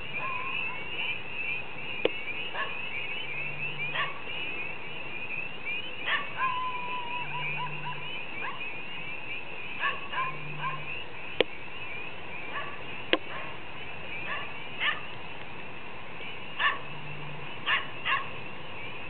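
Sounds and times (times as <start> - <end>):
loud frog calls: 0.0 - 15.2, 16.2 - 19.0
frogs peeping chorus: 0.0 - 19.0.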